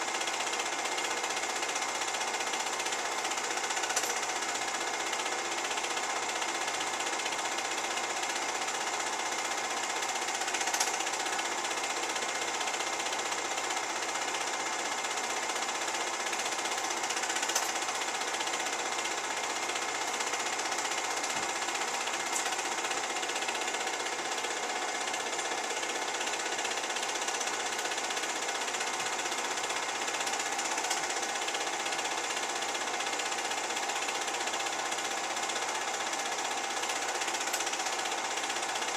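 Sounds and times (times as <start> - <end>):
film projector clattering: 0.0 - 38.9.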